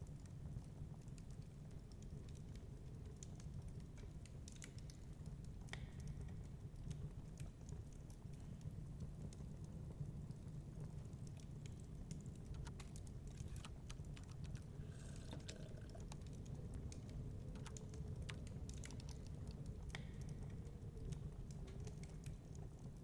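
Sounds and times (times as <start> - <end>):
low fire rumble: 0.0 - 23.0
wood fire crackling and popping: 0.0 - 23.0.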